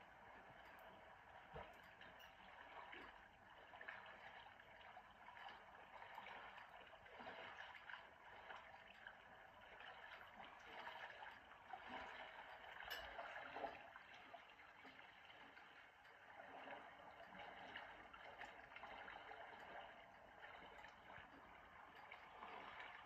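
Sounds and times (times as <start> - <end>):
faint trickling gurgling water: 0.0 - 23.0.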